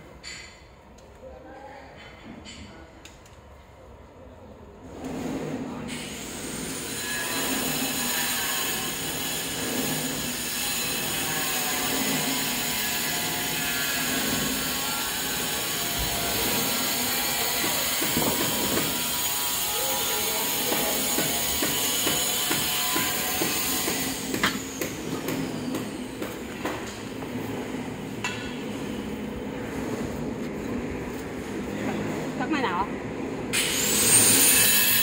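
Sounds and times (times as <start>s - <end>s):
concrete mixer drum rumbling: 4.8s - 34.0s.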